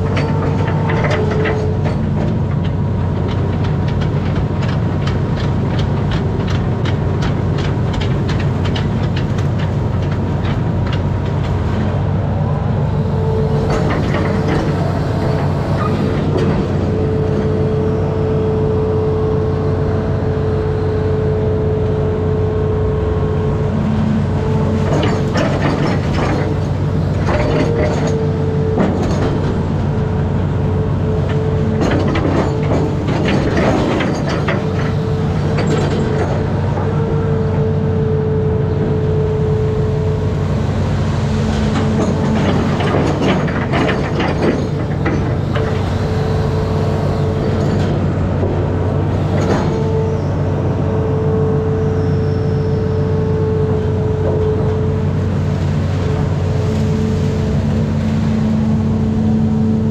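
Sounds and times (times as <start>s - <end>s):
diesel engine running: 0.0s - 59.9s
hydraulic whine: 11.8s - 59.9s.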